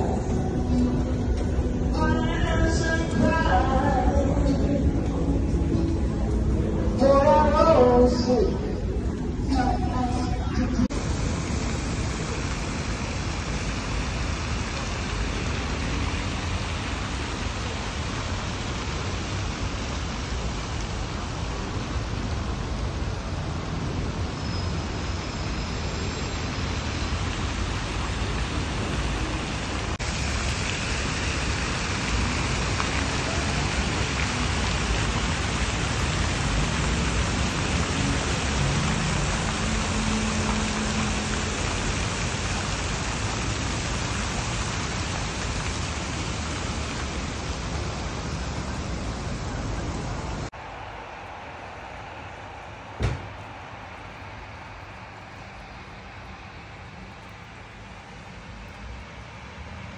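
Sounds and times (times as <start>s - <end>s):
fountain jets splashing into pool: 0.0s - 50.9s, 52.6s - 59.9s
city traffic rumble: 0.0s - 59.9s.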